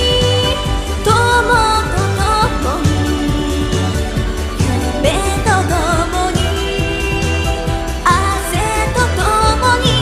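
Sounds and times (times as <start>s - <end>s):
pop backing track: 0.0s - 10.0s
woman singing into microphone: 0.0s - 10.0s.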